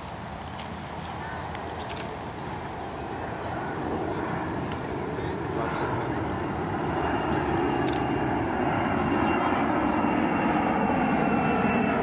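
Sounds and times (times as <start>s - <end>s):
jet aircraft engine drone: 0.0s - 12.0s.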